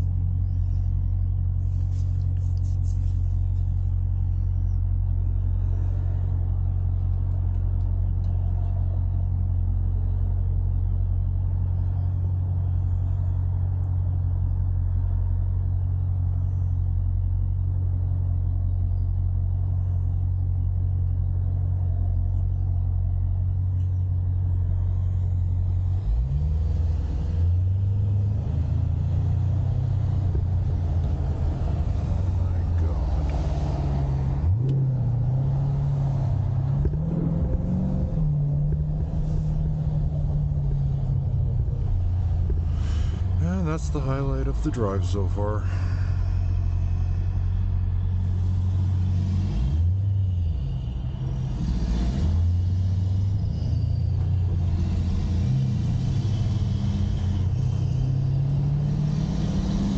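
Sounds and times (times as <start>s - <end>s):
engine droning while cruising: 0.0s - 59.9s.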